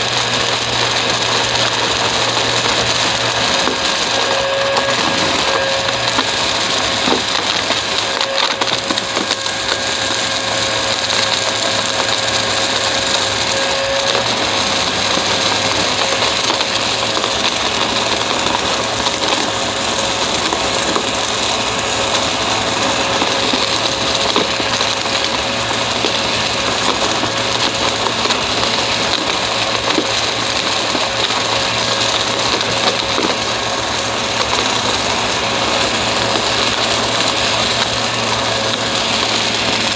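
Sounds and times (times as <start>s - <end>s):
debris ticking in vacuum: 0.0s - 39.9s
vacuum cleaner whining: 0.0s - 39.9s.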